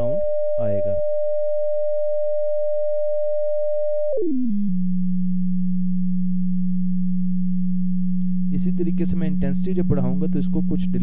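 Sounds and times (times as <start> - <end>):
sine tone gliding down: 0.0 - 11.0.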